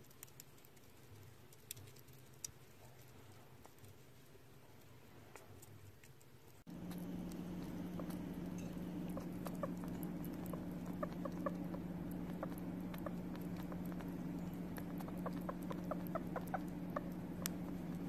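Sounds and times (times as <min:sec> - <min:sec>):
small animal licking and chewing: 0:00.0 - 0:18.0
steady low hum: 0:00.0 - 0:18.0.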